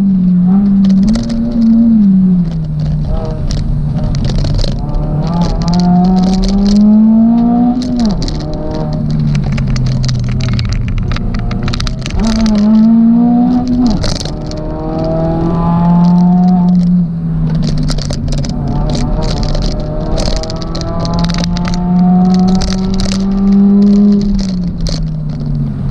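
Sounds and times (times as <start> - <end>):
car engine revving under full throttle: 0.0 - 25.9
sharp ticks and clatters: 0.3 - 25.6.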